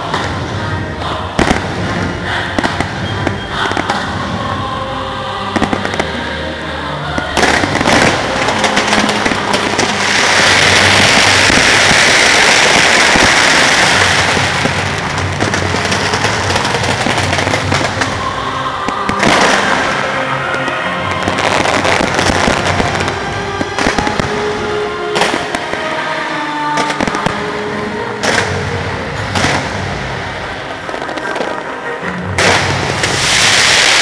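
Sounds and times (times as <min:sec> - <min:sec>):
fireworks bangs and pops: 0:00.0 - 0:00.7, 0:01.4 - 0:04.4, 0:05.6 - 0:06.1, 0:07.3 - 0:25.9, 0:26.7 - 0:27.4, 0:28.2 - 0:31.6, 0:32.4 - 0:34.0.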